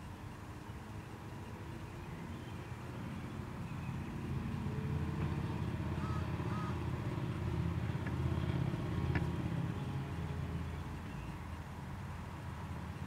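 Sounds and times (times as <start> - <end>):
passing vehicle rumble: 1.4 - 13.0.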